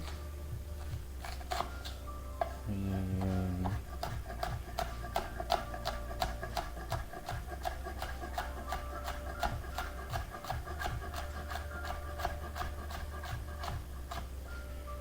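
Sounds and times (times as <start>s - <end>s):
knife chopping on cutting board: 0.0s - 14.3s.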